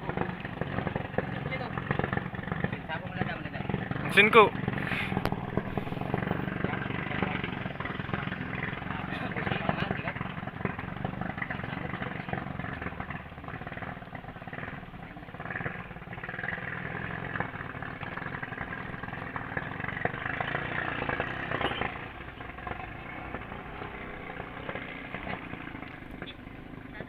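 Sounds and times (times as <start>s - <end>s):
boat petrol engine drone: 0.0s - 27.0s.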